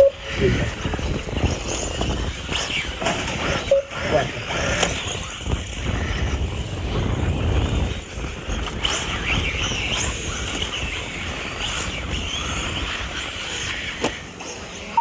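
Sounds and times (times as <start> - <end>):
small high-pitched engines revving: 0.0 - 15.0.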